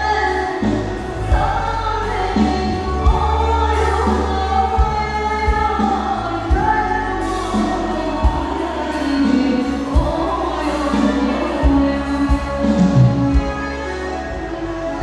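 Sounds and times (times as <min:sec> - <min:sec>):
bass line: 0:00.0 - 0:15.0
woman singing: 0:00.0 - 0:15.0.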